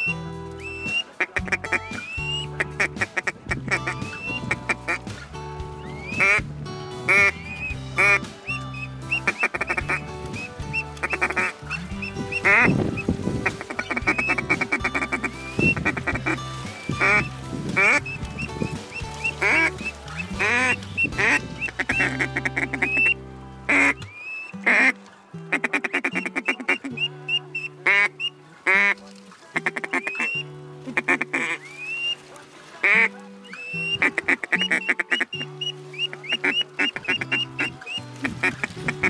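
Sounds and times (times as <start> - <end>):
background music with low notes: 0.0 - 39.0
duck quacking: 0.7 - 5.2, 5.9 - 6.5, 7.1 - 39.0.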